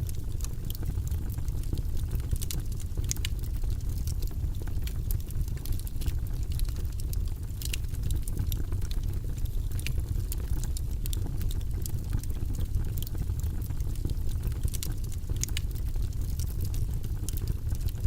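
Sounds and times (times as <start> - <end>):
low rumble of flames: 0.0 - 18.0
wood fire pops and snaps: 0.0 - 18.0.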